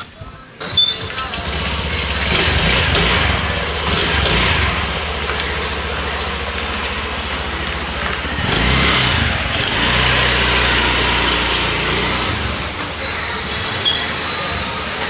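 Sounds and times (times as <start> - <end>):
vehicle engine running: 0.6 - 15.0.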